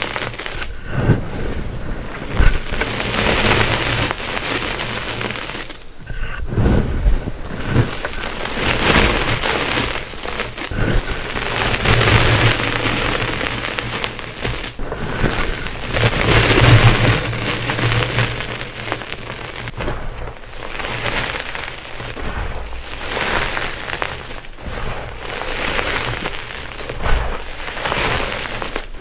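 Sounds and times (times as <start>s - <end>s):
chalk crunching and crackling: 0.0s - 29.0s.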